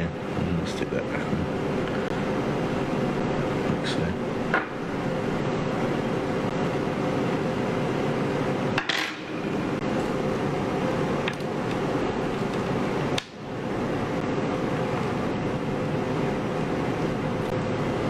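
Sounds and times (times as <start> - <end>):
background hiss and hum: 0.0 - 18.0.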